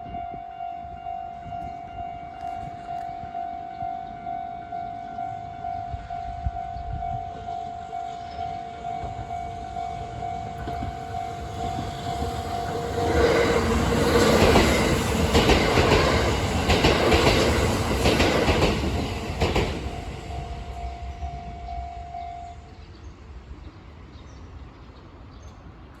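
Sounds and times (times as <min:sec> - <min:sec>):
train passing with clattering wheels: 0:00.0 - 0:26.0.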